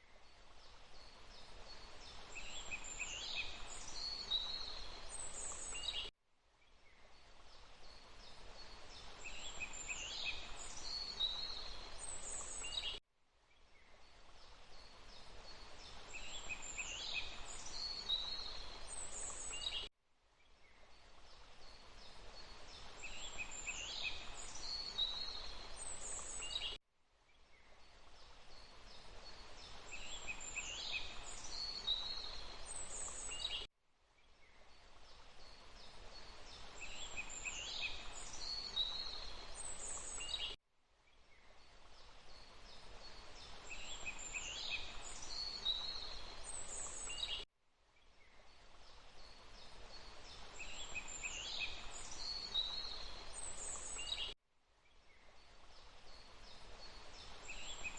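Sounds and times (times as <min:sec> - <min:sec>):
rushing water: 0:00.2 - 0:06.0, 0:07.2 - 0:12.9, 0:13.9 - 0:19.8, 0:20.9 - 0:26.7, 0:27.8 - 0:33.6, 0:34.7 - 0:40.4, 0:41.6 - 0:47.4, 0:48.5 - 0:54.1, 0:55.4 - 0:57.9.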